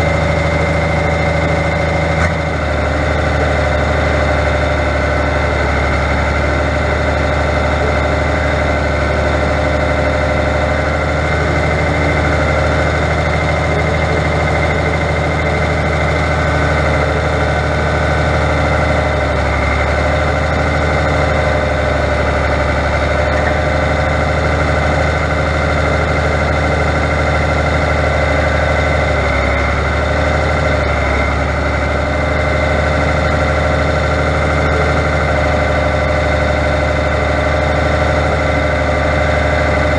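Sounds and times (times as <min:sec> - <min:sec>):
steady whine: 0:00.0 - 0:39.9
tractor diesel engine running: 0:00.0 - 0:39.9.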